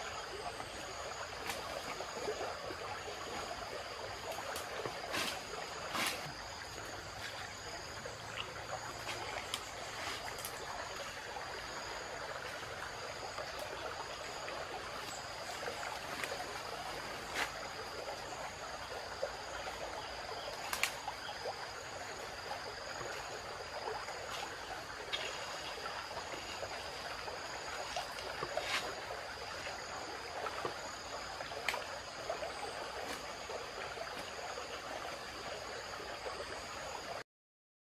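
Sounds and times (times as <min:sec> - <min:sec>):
insects droning: 0:00.0 - 0:37.2
stream trickling: 0:00.0 - 0:37.2.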